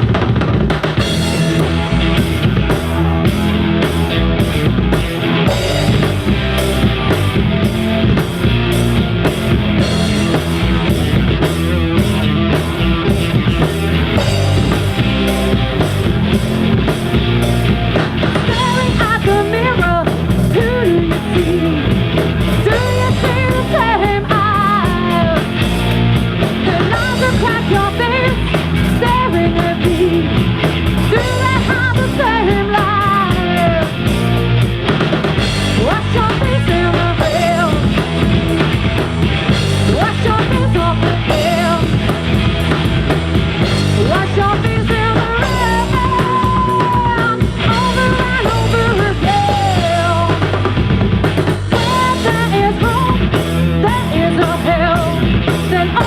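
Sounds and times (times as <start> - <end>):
drum kit beat: 0.0 - 56.0
guitar and bass: 0.0 - 56.0.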